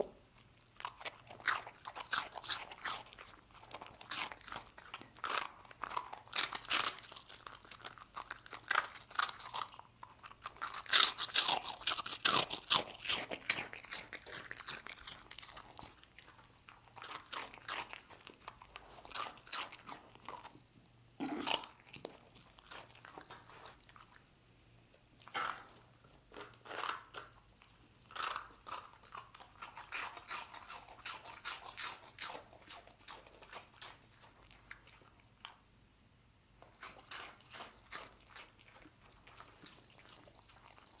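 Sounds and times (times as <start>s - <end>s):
dog crunching dry rusks: 0.0s - 20.6s, 21.2s - 24.2s, 25.2s - 35.6s, 36.6s - 41.0s.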